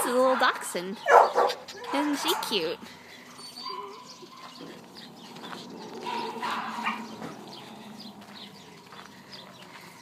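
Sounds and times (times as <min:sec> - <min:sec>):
dogs barking: 0:00.0 - 0:02.8, 0:03.4 - 0:08.8.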